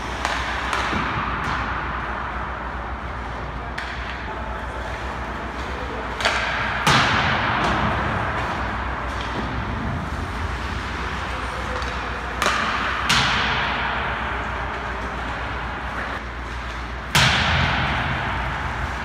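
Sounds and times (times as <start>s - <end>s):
hockey pucks cracking: 0.0s - 19.0s.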